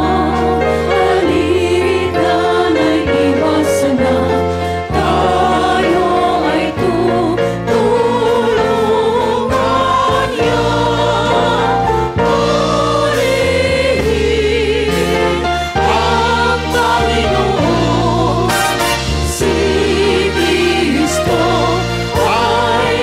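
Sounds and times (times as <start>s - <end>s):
bass line: 0.0s - 23.0s
gospel choir singing: 0.0s - 23.0s.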